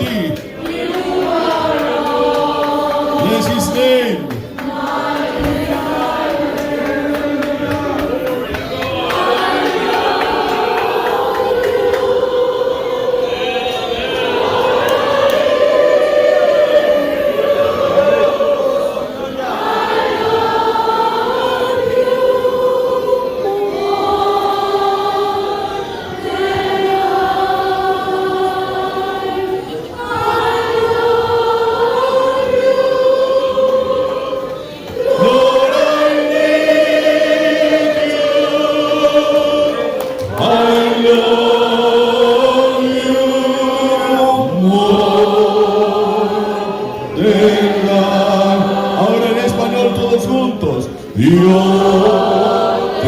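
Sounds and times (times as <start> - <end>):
congregation singing: 0.0 - 53.0.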